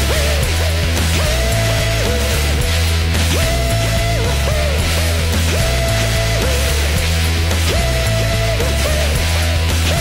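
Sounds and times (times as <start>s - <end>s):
bass line: 0.0s - 10.0s
drums: 0.0s - 10.0s
electric guitar lead: 0.0s - 10.0s.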